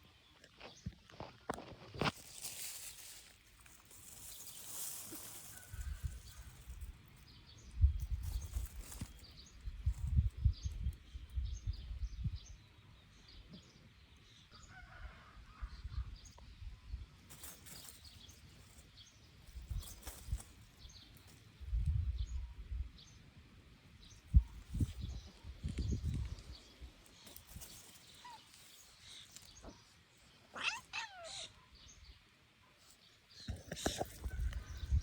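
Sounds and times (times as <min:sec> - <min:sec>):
small birds chirping: 0:00.0 - 0:14.8, 0:15.8 - 0:35.0.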